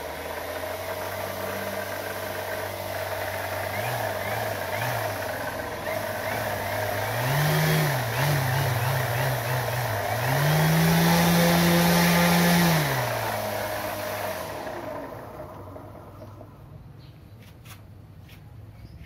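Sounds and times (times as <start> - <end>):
model airplane motor and propeller: 0.0 - 16.7.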